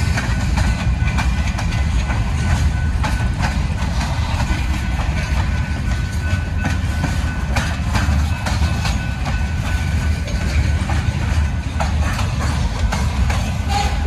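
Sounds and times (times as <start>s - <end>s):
train rumbling past: 0.0s - 14.0s
wheels clicking over rail joints: 0.0s - 14.0s.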